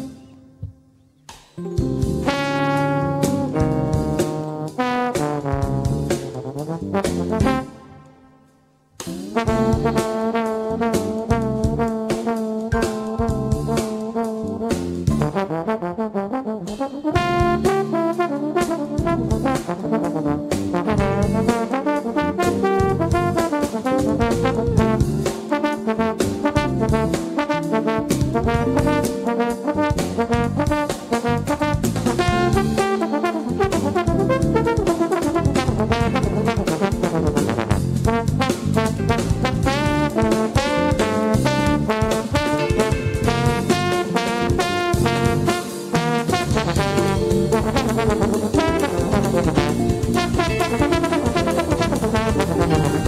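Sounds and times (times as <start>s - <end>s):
trombone playing jazz line: 0.0s - 0.3s, 1.6s - 53.0s
drum kit: 0.0s - 16.0s, 16.6s - 53.0s.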